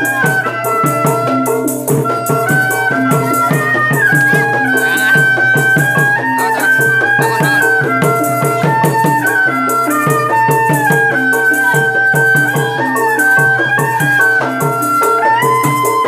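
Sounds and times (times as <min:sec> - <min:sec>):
high held-note melody: 0:00.0 - 0:14.0
hand drum rhythm: 0:00.0 - 0:16.0.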